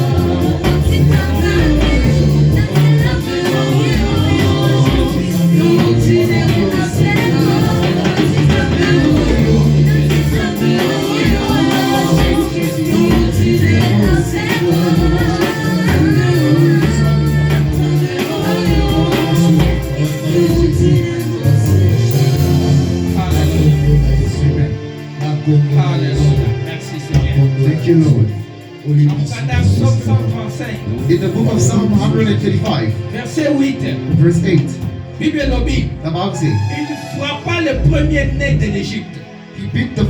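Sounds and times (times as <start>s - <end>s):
worship band with singing: 0.0s - 40.0s.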